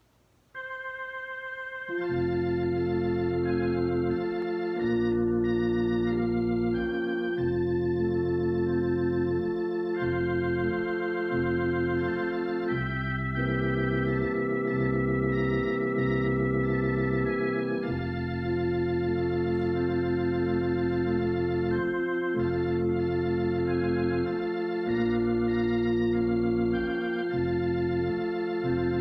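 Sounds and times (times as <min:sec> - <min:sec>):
organ playing slow chords: 0:00.6 - 0:29.0.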